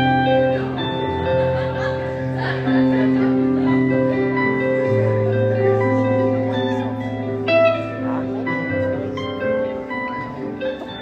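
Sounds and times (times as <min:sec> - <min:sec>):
live band with guitar: 0:00.0 - 0:11.0.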